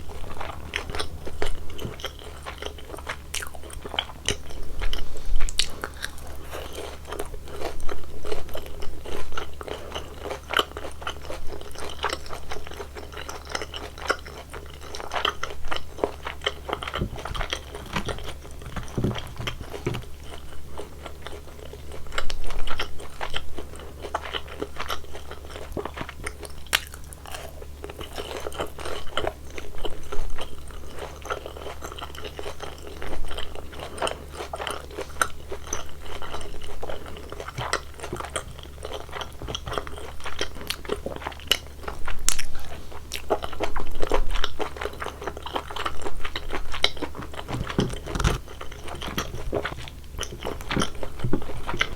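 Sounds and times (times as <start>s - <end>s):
crunchy chewing: 0.0s - 51.9s.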